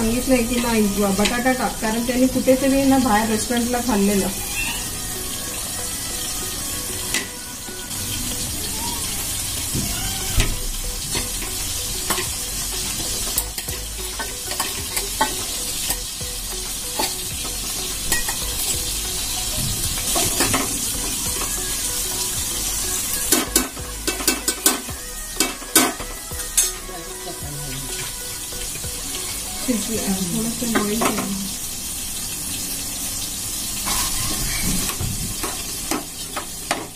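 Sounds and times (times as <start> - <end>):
spices sizzling in oil: 0.0 - 36.9.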